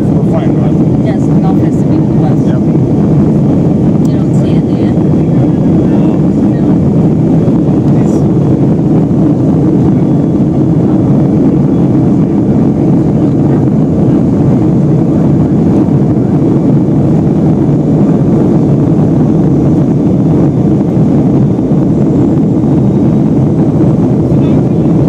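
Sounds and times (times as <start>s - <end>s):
airplane cabin engine rush: 0.0s - 25.0s.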